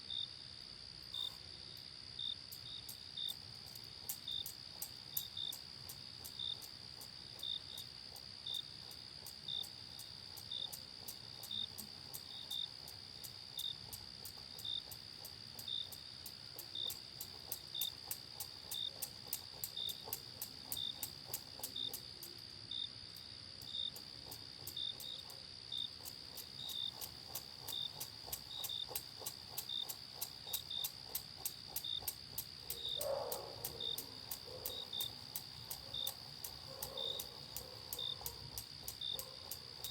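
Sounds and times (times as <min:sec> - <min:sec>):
insect chirps: 0:00.0 - 0:39.9
insects trilling: 0:00.0 - 0:39.9.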